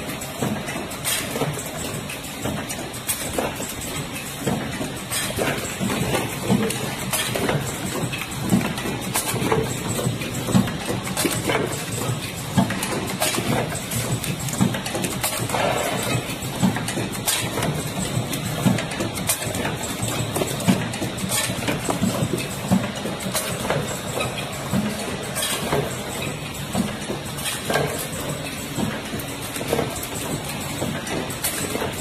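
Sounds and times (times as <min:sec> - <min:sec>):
machine knocking: 0:00.0 - 0:32.0
machine mechanical clatter: 0:00.0 - 0:32.0.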